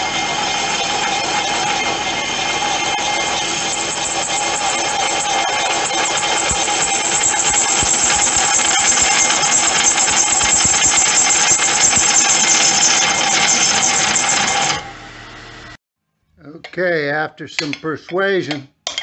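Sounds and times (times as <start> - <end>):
metal-cutting screech with ringing: 0.0 - 15.5.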